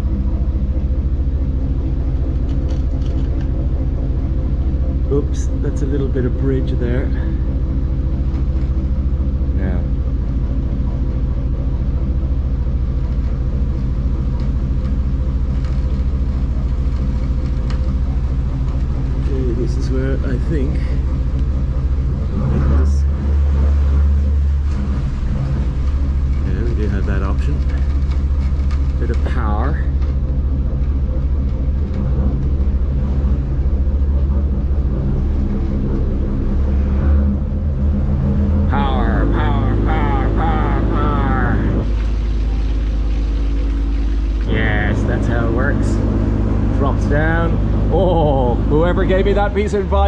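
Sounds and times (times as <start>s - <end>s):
diesel boat engine running: 0.0s - 50.0s.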